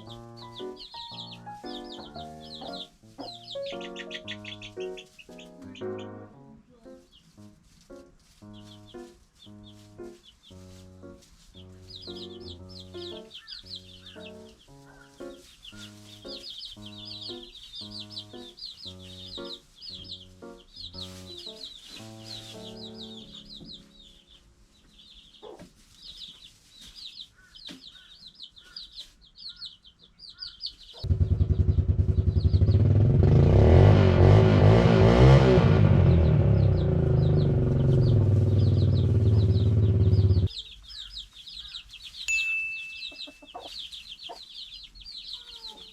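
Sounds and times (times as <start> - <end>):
chicks peeping: 0.0 - 45.9.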